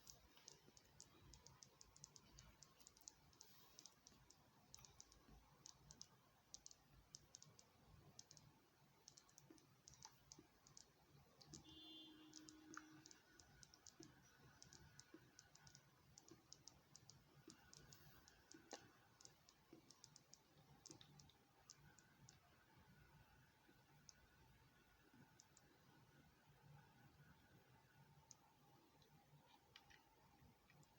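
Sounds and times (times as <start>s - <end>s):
faint irregular clicks: 0.0s - 30.9s.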